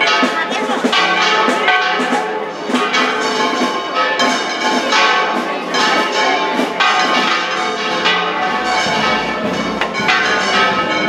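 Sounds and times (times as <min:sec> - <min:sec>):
church bells pealing: 0:00.0 - 0:11.0.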